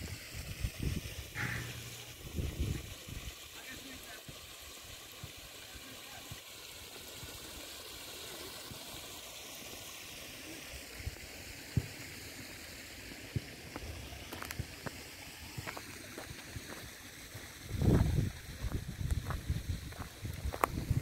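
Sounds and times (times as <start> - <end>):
stream rushing over stones: 0.0 - 21.0.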